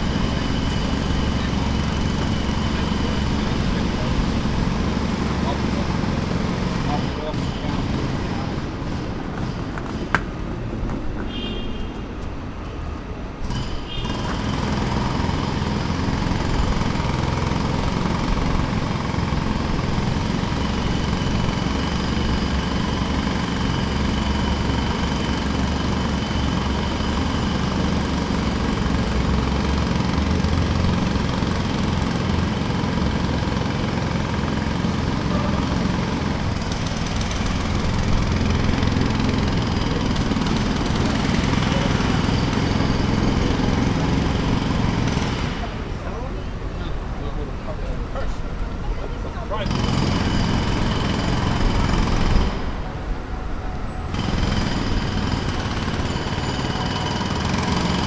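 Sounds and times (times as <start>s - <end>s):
jackhammer hammering: 0.0s - 10.5s, 13.4s - 46.8s, 49.5s - 53.2s, 54.0s - 58.0s.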